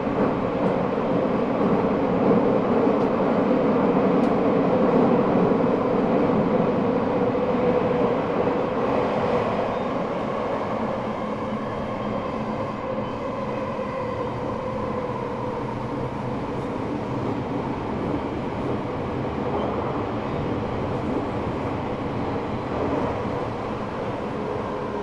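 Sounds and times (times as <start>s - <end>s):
train wheel and rail rumble: 0.0s - 25.0s.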